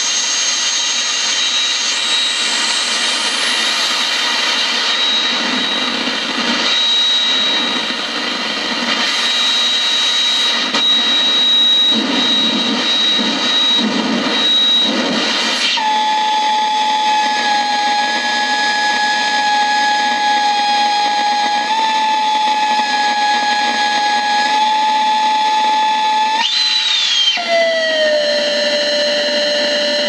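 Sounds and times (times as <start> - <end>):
high whistling tone: 0.0 - 4.0, 4.6 - 8.0, 9.1 - 30.0.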